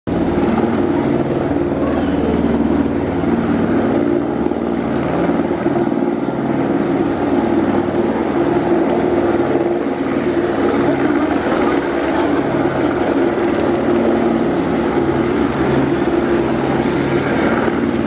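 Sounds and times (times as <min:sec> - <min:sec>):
helicopter rotor drone: 0:00.1 - 0:18.0.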